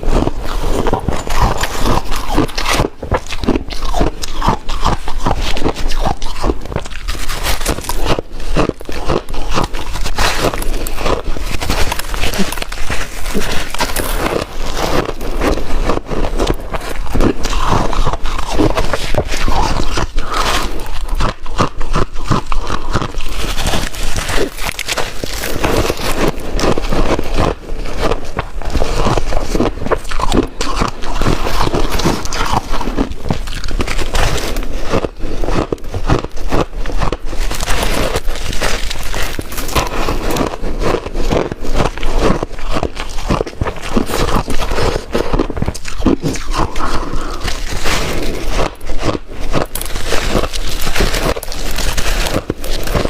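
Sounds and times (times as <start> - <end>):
person crunching shaved ice: 0.0 - 53.0.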